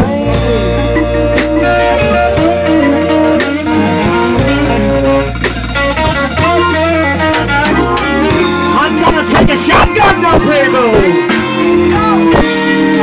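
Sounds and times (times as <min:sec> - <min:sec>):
live blues band playing: 0:00.0 - 0:13.0.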